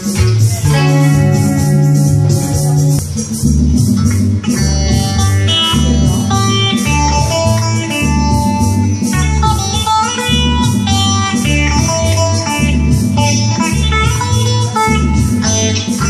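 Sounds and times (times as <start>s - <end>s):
electric guitar playing: 0.0s - 16.0s
repeating bass line: 0.0s - 16.0s
steady drum beat: 0.0s - 16.0s.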